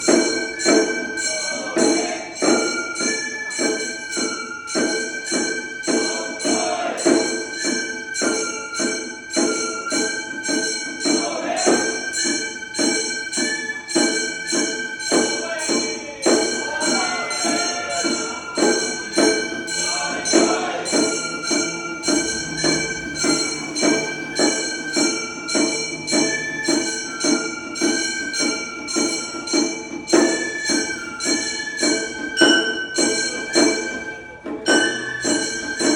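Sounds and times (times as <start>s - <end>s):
high bamboo flute melody: 0.0s - 35.9s.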